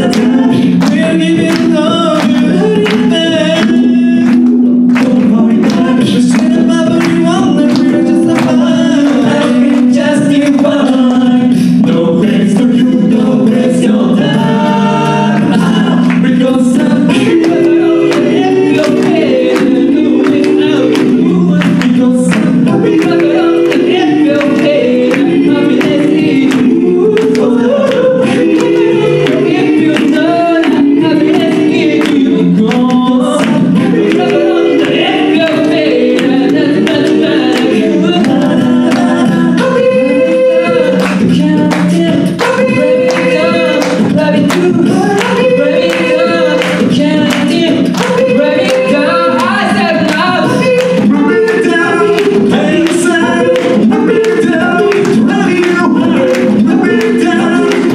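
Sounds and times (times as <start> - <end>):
a cappella group singing: 0.0 - 57.9.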